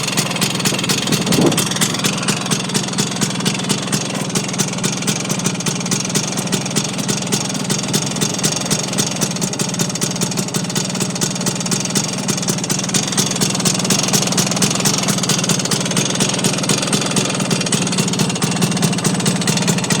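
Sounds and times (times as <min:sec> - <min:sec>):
regular engine knock: 0:00.0 - 0:20.0
scooter engine running: 0:00.0 - 0:20.0.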